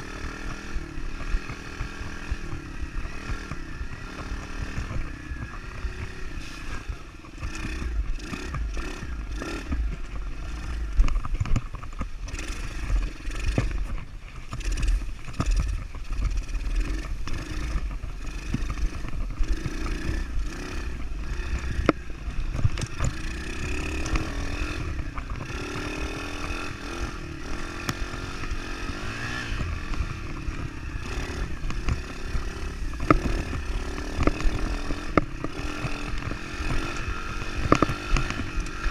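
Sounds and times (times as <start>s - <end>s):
bike knocks and rattles: 0.0s - 38.9s
motorbike engine revving: 0.0s - 38.9s.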